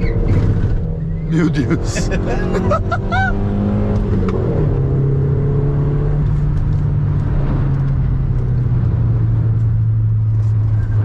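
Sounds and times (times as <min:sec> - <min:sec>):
car engine drone from inside: 0:00.0 - 0:11.0.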